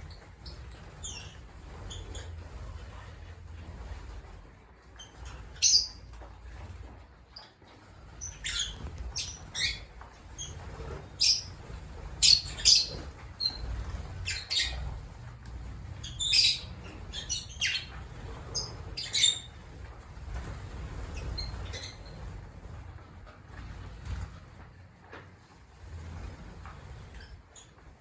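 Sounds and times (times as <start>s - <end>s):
lovebirds chirping and squawking: 0.0s - 24.2s, 26.3s - 28.0s.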